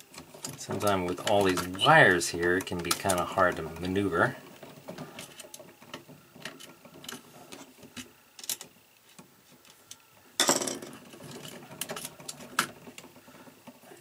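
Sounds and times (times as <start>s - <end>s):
rustling of stiff cable: 0.0s - 10.2s, 10.9s - 14.0s.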